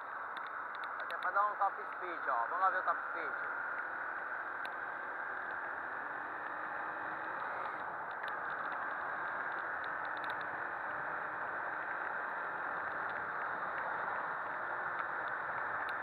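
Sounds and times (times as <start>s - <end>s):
motorcycle engine: 2.9s - 16.0s.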